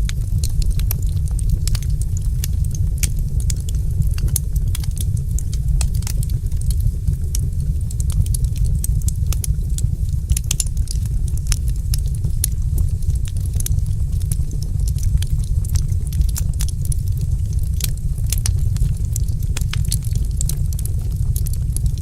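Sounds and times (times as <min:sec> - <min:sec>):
steady low rumble: 0:00.0 - 0:22.0
wood fire crackling and popping: 0:00.0 - 0:22.0.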